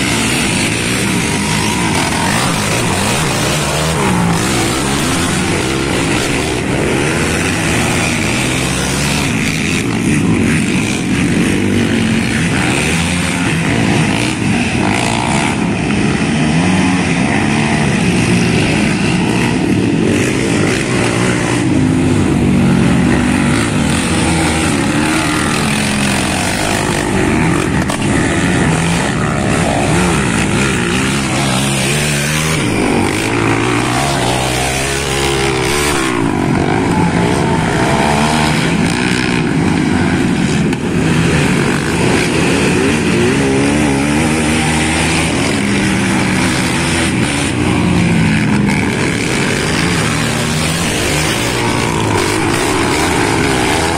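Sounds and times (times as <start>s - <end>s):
quad engines racing: 0.0s - 53.9s.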